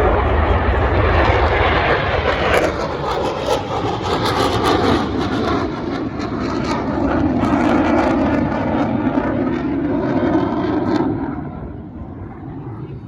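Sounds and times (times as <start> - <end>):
jet engines roaring past: 0.0 - 13.0.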